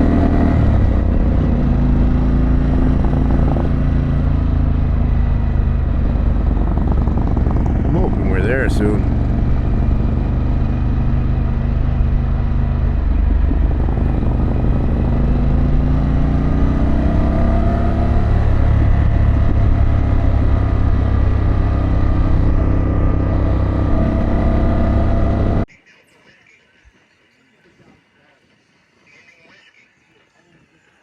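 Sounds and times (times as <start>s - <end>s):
motorcycle engine accelerating: 0.0s - 25.7s.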